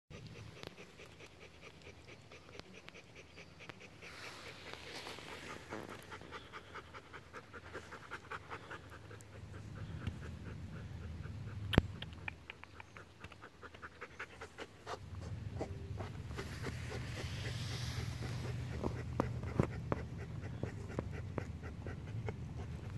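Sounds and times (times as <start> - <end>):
dog panting: 0.1 - 22.9.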